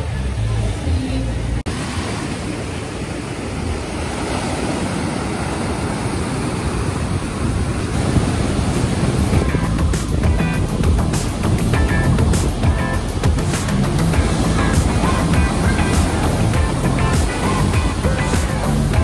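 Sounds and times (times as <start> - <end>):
ocean waves breaking: 1.6 - 19.0.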